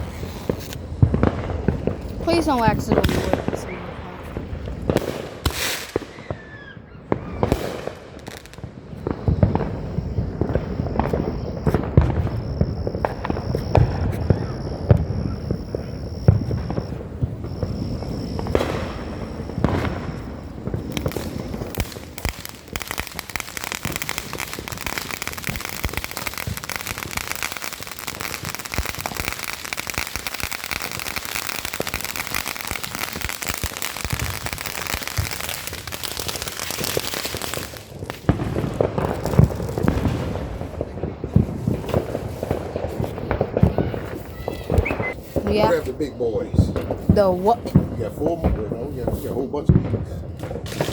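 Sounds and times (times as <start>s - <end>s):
high firework whistle: 0.0s - 0.8s, 4.9s - 46.0s
dense firework crackling: 0.0s - 50.9s
fireworks popping and banging: 0.0s - 50.9s.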